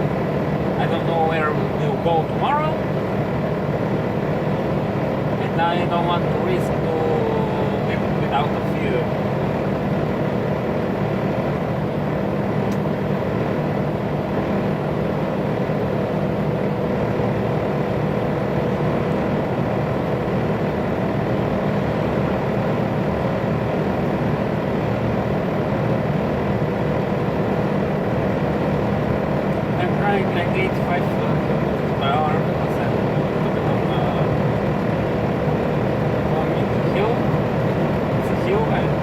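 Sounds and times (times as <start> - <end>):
faint steady whine: 0.0 - 39.0
truck diesel engine under load: 0.0 - 39.0
road and tyre noise: 7.5 - 39.0.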